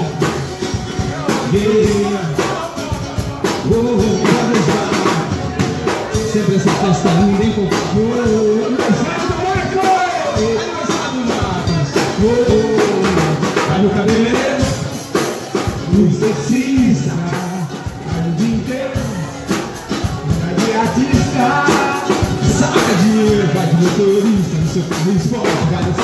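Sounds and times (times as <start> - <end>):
drum kit and percussion: 0.0 - 26.0
man singing: 0.0 - 26.0.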